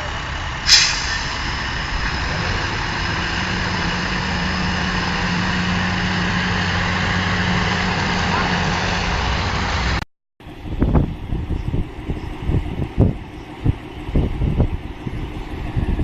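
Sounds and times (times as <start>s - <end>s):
large engine running: 0.0s - 16.0s.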